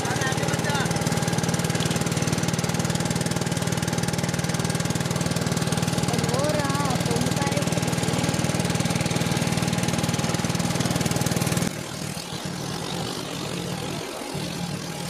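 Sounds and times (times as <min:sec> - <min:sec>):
motorboat engine chugging: 0:00.0 - 0:15.0
water rushing along hull: 0:00.0 - 0:15.0.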